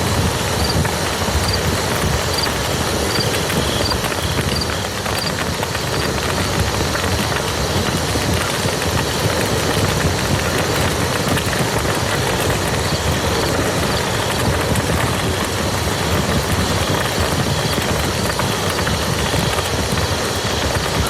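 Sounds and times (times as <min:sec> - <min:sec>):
rain falling on muddy field: 0:00.0 - 0:21.0.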